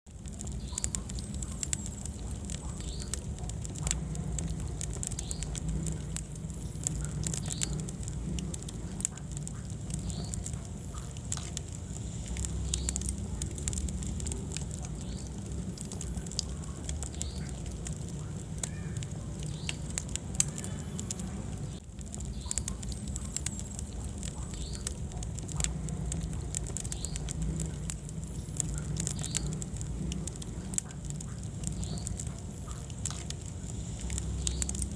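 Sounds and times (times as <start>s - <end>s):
low rumble of flames: 0.0s - 34.9s
wood fire crackling and popping: 0.0s - 34.9s.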